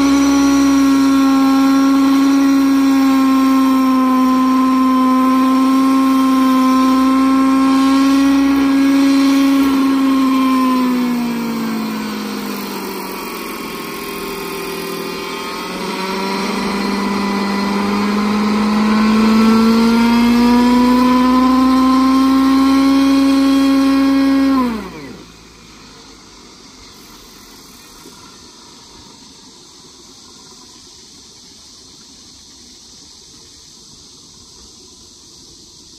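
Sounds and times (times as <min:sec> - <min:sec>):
model helicopter whining: 0:00.0 - 0:31.4.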